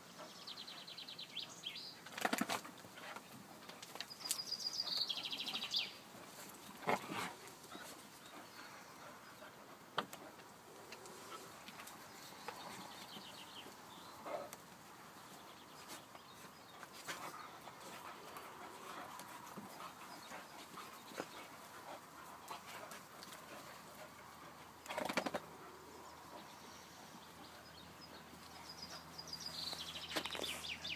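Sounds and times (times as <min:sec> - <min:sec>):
dogs scuffling in dirt: 0:02.0 - 0:08.8, 0:09.8 - 0:26.3, 0:27.2 - 0:30.9
birds chirping: 0:03.9 - 0:30.9.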